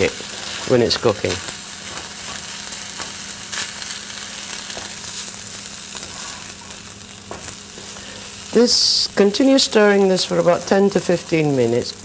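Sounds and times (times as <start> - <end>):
rice sizzling in oil: 0.0 - 12.0.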